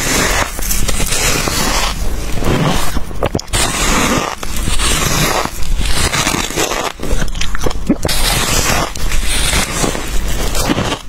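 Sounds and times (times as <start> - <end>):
crunchy chewing of frost: 0.0 - 11.0.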